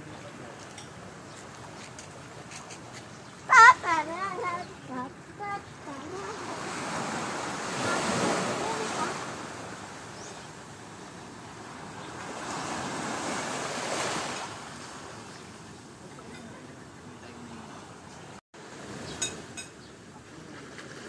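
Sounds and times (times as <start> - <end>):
small waves washing onto beach: 0.0 - 21.0.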